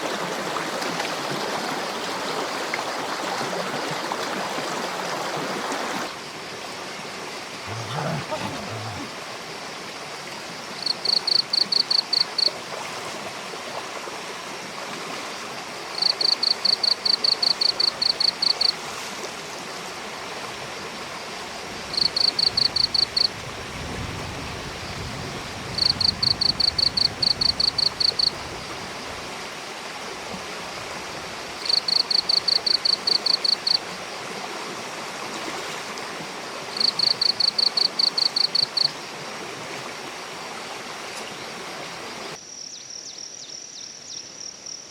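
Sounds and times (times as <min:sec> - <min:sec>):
stream running: 0:00.0 - 0:42.4.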